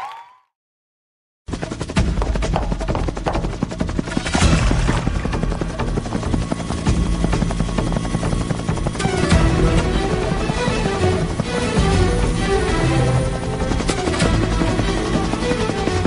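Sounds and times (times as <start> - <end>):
helicopter rotor chopping: 1.5 - 16.0.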